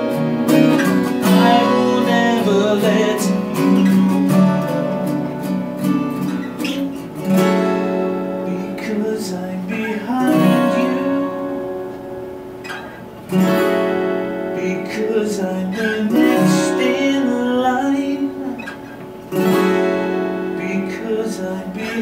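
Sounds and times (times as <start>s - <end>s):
acoustic guitars strumming chords: 0.0s - 22.0s.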